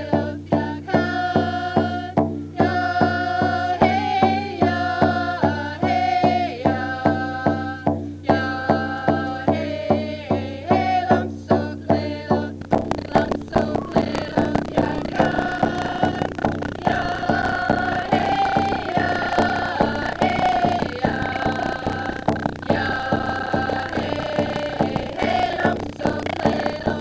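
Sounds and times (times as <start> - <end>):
group of voices singing: 0.0 - 27.0
hand drum beat: 0.0 - 27.0.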